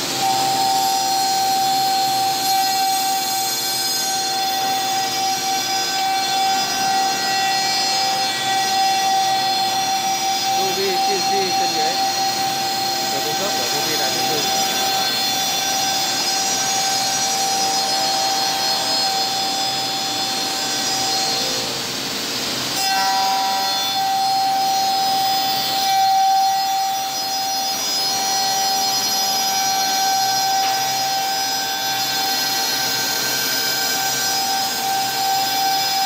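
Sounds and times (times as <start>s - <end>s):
cutters shaping wood: 0.0s - 21.9s, 22.6s - 36.0s
spindle high whine: 0.0s - 36.0s.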